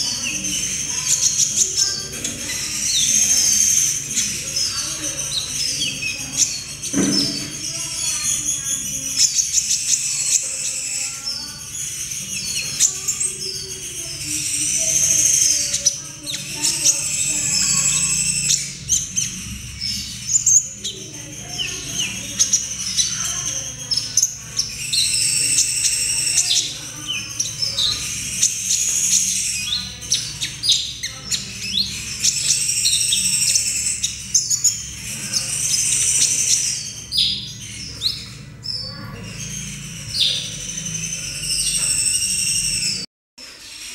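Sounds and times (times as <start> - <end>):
young bird twittering: 0.0 - 43.1.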